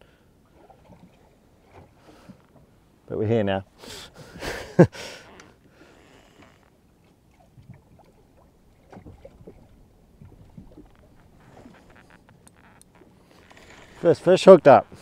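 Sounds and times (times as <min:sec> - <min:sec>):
water lapping against boat hull: 0:00.4 - 0:03.1, 0:05.1 - 0:15.0.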